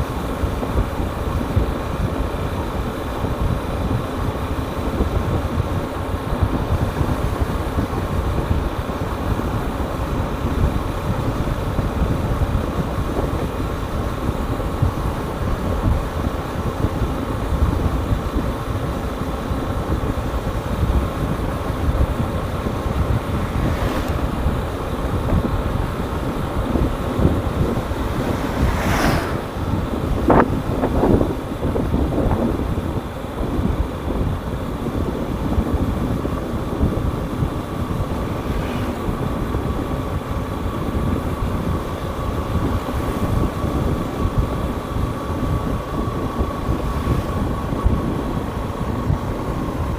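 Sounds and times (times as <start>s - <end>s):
wind rumble on microphone: 0.0s - 49.9s.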